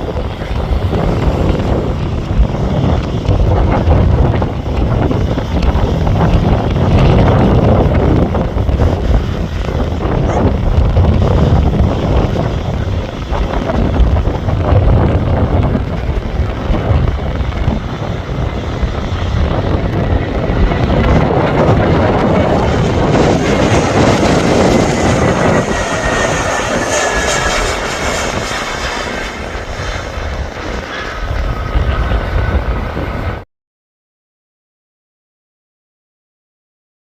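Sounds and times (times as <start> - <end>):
jet engines passing overhead: 0.0 - 33.4
wind buffeting microphone: 0.0 - 33.4.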